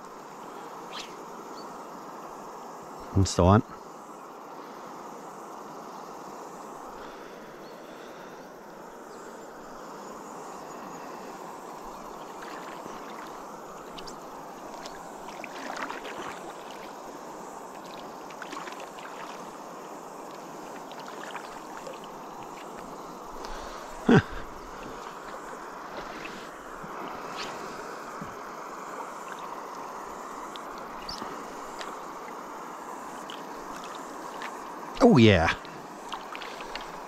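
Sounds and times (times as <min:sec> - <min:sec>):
river water flowing: 0:00.0 - 0:37.0.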